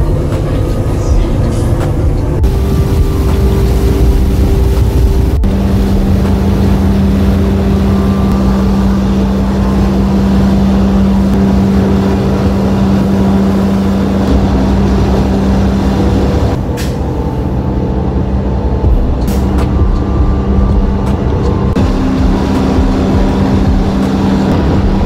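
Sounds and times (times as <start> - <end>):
constant machinery hum: 0.0 - 25.0
ferry engines droning: 0.0 - 25.0.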